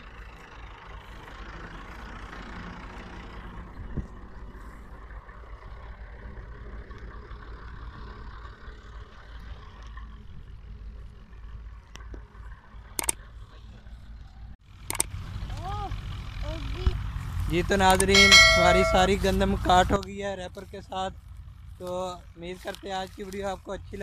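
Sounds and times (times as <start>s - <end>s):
distant farm machine engine drone: 0.0s - 22.4s.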